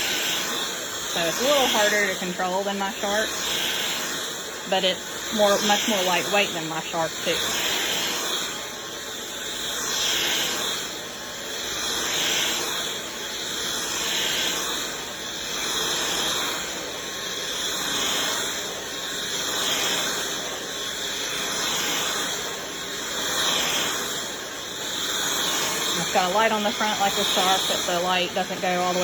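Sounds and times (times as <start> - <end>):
vacuum cleaner motor whine: 0.0 - 29.0.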